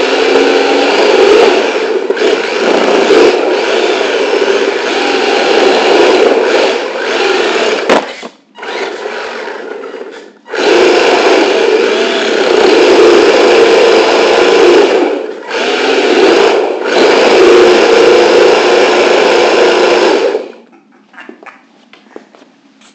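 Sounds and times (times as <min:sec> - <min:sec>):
electric motor whining: 0:00.0 - 0:20.6.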